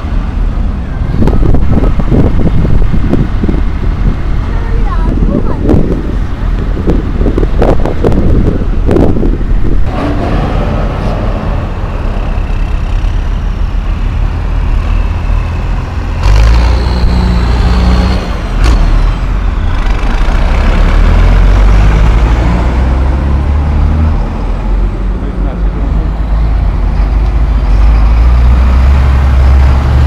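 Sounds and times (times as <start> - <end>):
tractor diesel engines passing: 0.0 - 30.0.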